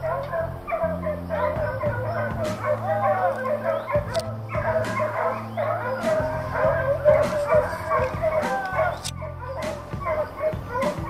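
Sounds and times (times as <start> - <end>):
hounds baying in chorus: 0.0 - 11.0.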